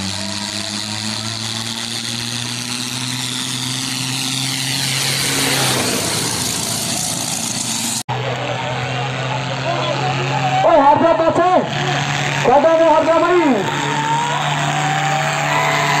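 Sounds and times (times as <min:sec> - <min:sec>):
tractor engine passing by: 0:00.0 - 0:16.0.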